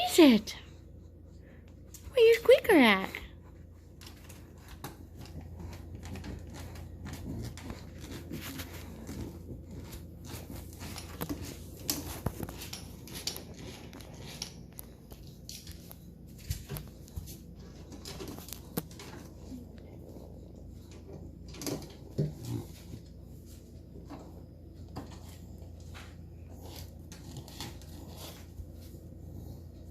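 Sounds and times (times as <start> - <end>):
steady low hum: 0.0 - 29.9
pet claws scratching floor: 3.9 - 29.6.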